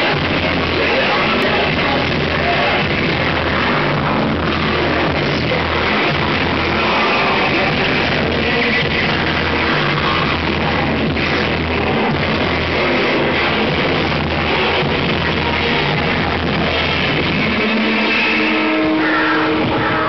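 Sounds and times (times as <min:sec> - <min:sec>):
harsh distorted noise music: 0:00.0 - 0:20.0
low drone: 0:00.5 - 0:20.0.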